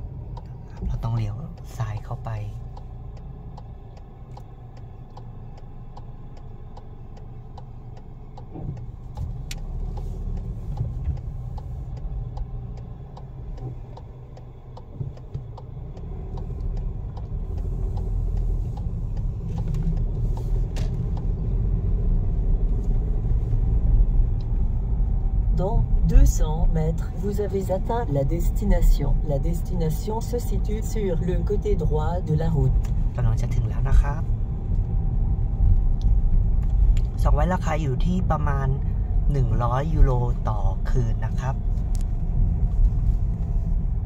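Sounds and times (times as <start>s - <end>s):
car engine and tyre rumble: 0.0s - 44.0s
turn signal ticking: 0.0s - 44.0s.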